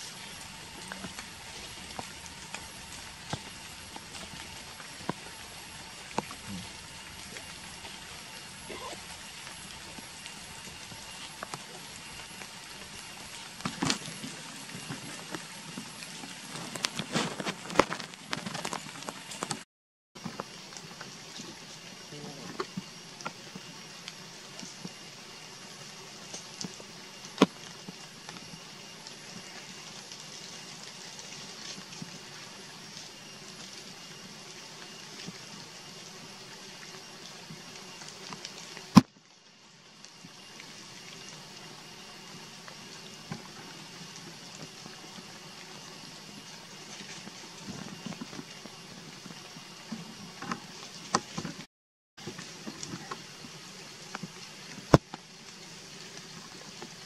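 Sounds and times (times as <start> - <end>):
forest background hiss: 0.0 - 19.6, 20.2 - 57.0
crackles: 0.0 - 57.0.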